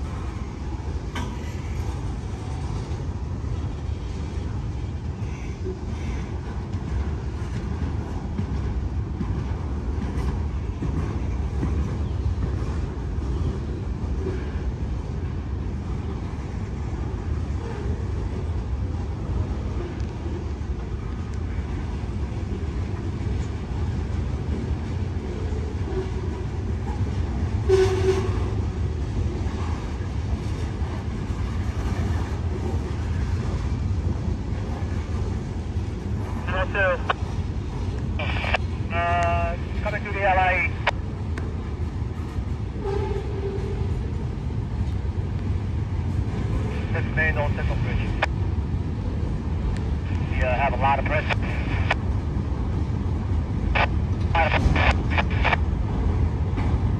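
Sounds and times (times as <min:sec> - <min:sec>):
freight train wheels rumbling: 0:00.0 - 0:56.9.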